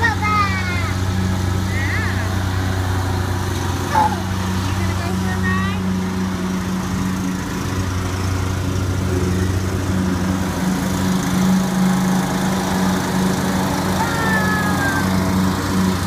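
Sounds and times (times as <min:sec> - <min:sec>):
riding lawn mower engine running: 0:00.0 - 0:16.0.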